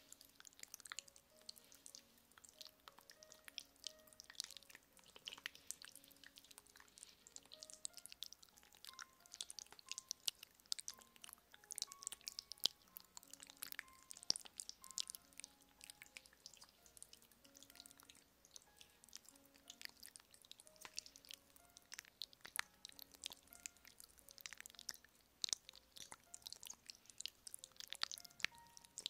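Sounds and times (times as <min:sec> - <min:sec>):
soft music of held notes: 0:00.0 - 0:29.0.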